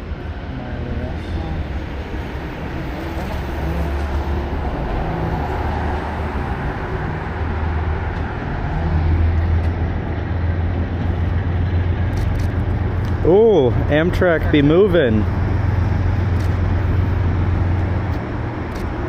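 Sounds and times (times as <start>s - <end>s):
moving train rumbling: 0.0s - 19.0s.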